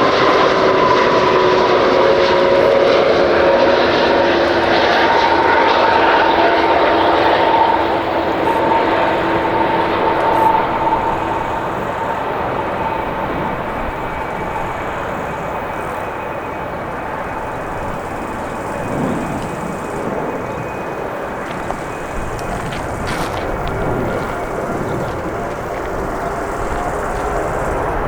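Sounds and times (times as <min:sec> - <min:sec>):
broad jet rumble: 0:00.0 - 0:28.0
jet engine whine: 0:00.0 - 0:28.0.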